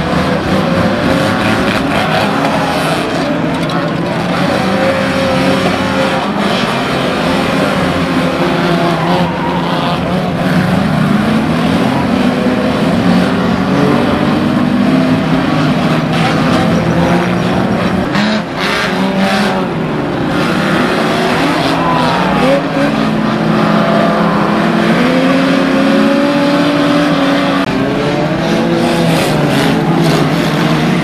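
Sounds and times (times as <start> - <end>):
car engines revving: 0.0 - 31.0
tyres skidding: 0.0 - 31.0.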